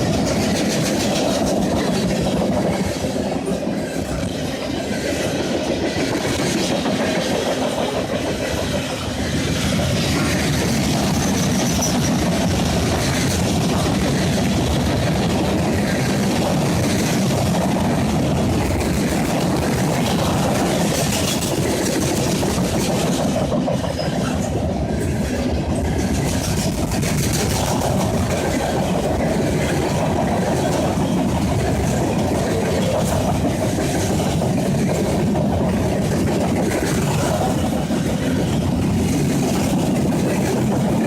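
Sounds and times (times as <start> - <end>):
train wheels clattering over rail joints: 0.0 - 41.0.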